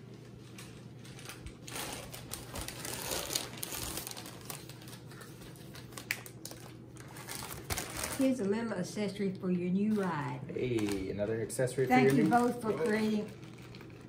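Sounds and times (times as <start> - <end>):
packaging rustling and crinkling: 0.2 - 8.5, 9.9 - 14.0.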